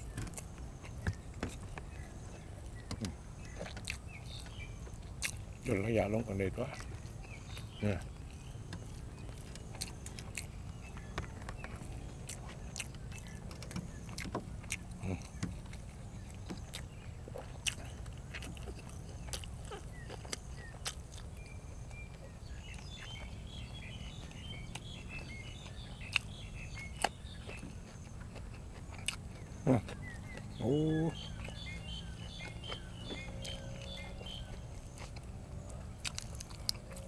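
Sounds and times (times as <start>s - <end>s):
person chewing crunchy food: 0.0s - 5.7s, 6.6s - 37.0s
faint bird chirps: 0.0s - 37.0s.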